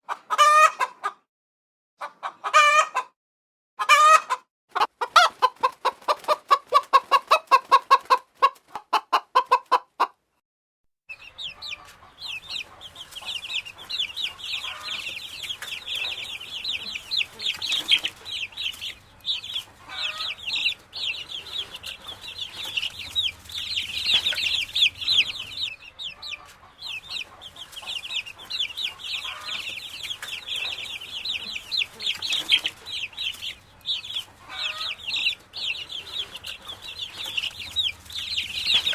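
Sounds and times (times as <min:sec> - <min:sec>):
chicken wavering calls: 0:00.1 - 0:01.1, 0:03.8 - 0:10.1, 0:11.1 - 0:38.9
chickens chattering: 0:00.1 - 0:01.2, 0:03.8 - 0:10.2, 0:11.1 - 0:38.9
chicken clucking: 0:00.1 - 0:01.3, 0:02.0 - 0:03.2, 0:03.8 - 0:10.2, 0:11.1 - 0:38.9.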